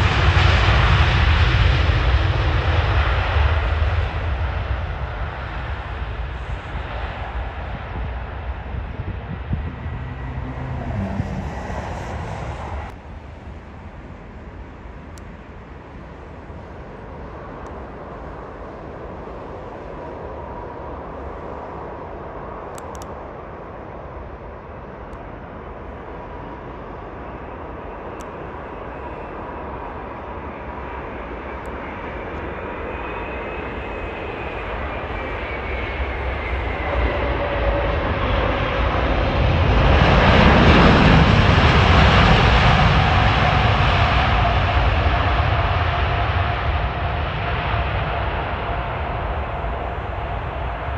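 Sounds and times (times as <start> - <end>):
jet engines whining and rushing: 0.0 - 50.9.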